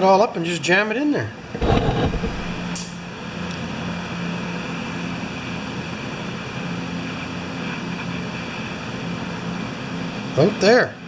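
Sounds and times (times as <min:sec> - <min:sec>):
machine hum with hiss: 0:01.4 - 0:11.0.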